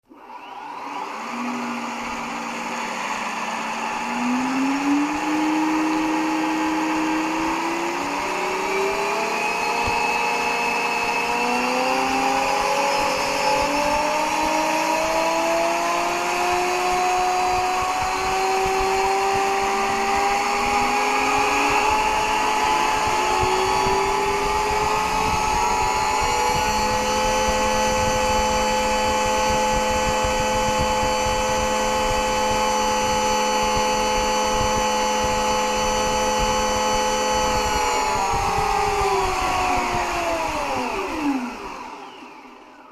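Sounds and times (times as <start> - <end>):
rc helicopter tail rotor whine: 0.0 - 42.9
low hum: 1.3 - 42.7.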